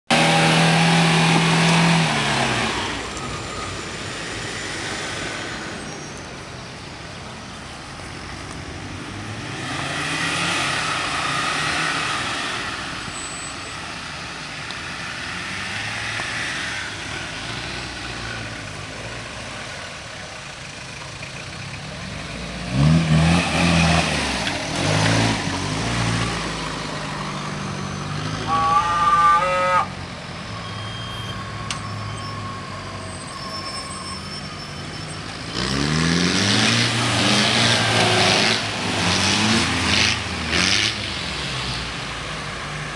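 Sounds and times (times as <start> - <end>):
off-road vehicle engines revving: 0.1 - 42.9.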